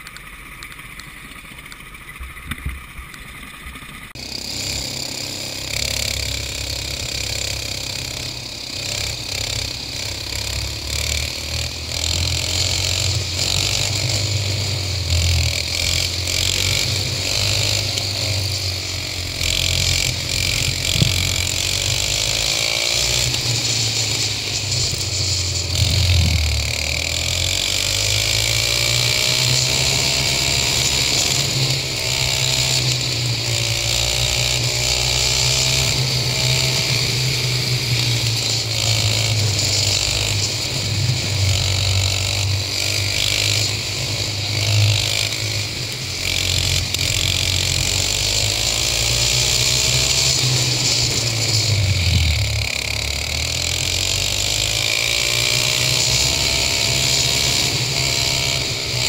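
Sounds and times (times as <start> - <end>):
go-kart engine: 0.0 - 59.0.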